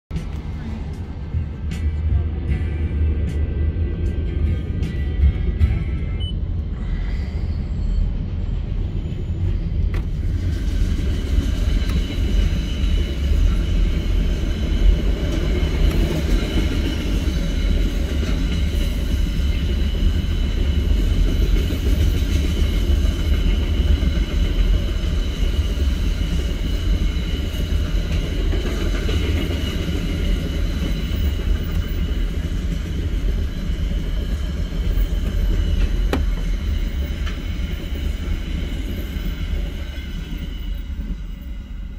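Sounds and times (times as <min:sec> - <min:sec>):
freight train wagons rumbling: 0:00.1 - 0:41.9.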